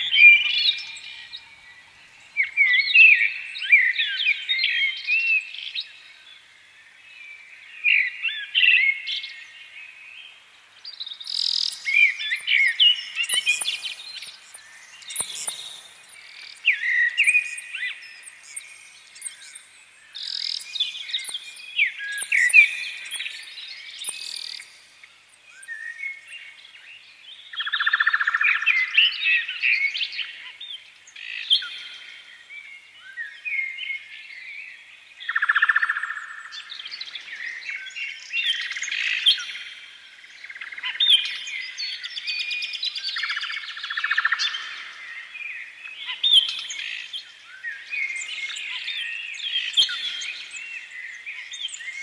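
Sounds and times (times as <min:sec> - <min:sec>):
chorus of birds chirping: 0:00.0 - 0:52.0.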